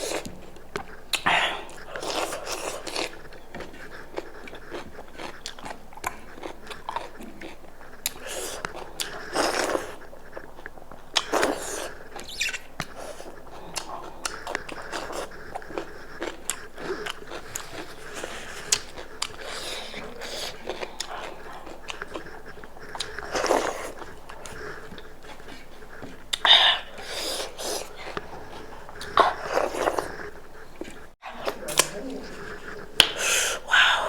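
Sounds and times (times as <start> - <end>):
close chewing with mouth smacks: 0.0 - 34.0.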